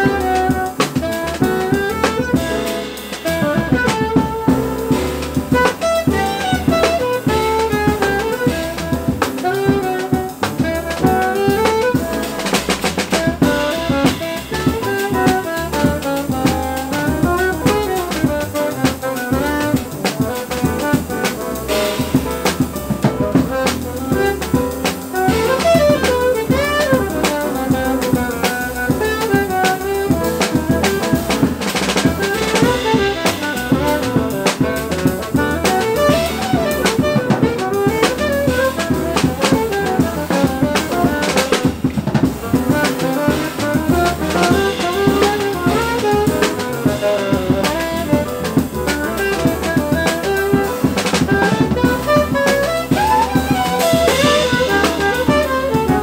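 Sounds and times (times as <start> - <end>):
drum kit with cymbals: 0.0 - 56.0
piano: 0.0 - 56.0
saxophone melody: 0.0 - 56.0
upright double bass: 0.0 - 56.0.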